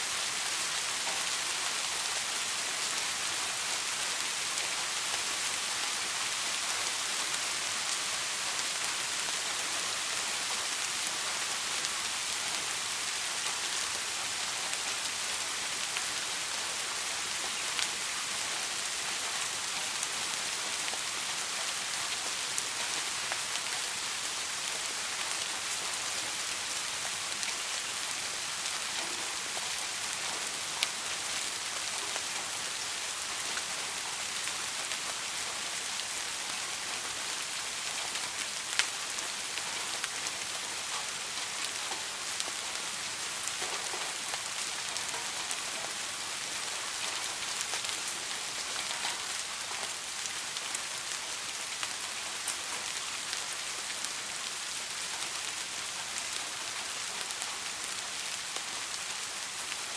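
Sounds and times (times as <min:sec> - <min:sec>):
soft rain hissing: 0:00.0 - 0:59.9.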